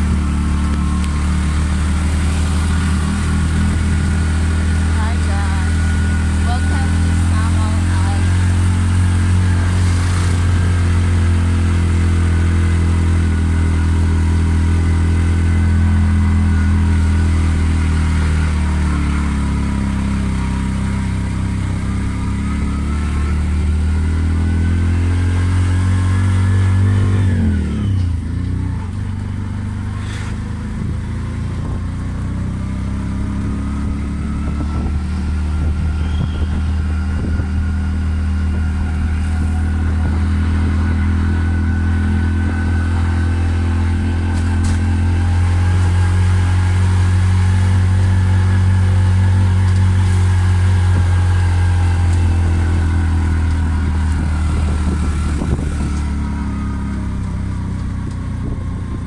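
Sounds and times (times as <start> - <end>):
motorcycle engine running: 0.0 - 59.0
road noise: 0.0 - 59.0.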